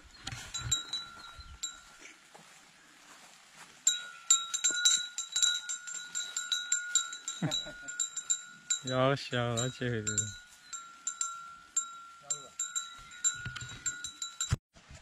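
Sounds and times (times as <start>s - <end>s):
cow bell clinking: 0.0s - 2.1s, 3.8s - 14.6s.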